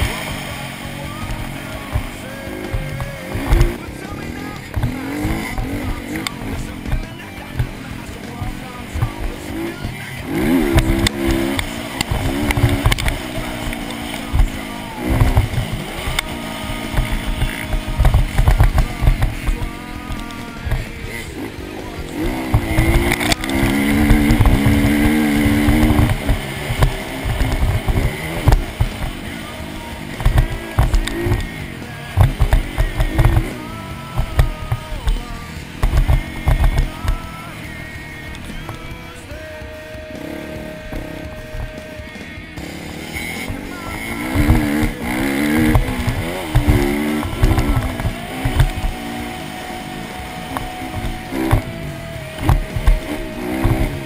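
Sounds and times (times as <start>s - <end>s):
dirt bike engine revving: 0.0s - 54.0s
thumps on microphone: 1.0s - 21.2s, 21.9s - 54.0s.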